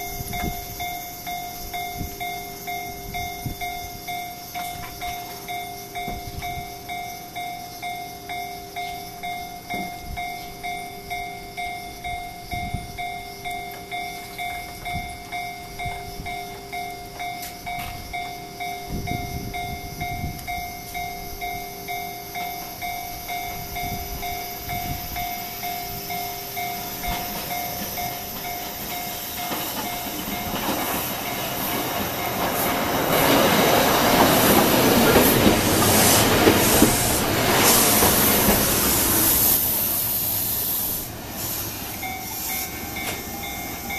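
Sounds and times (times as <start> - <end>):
tram wheels clicking over rails: 0.0 - 7.0, 13.7 - 43.9.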